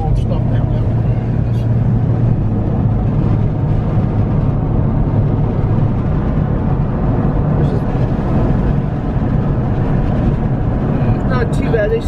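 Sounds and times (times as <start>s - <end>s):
car road noise inside cabin: 0.0s - 12.0s.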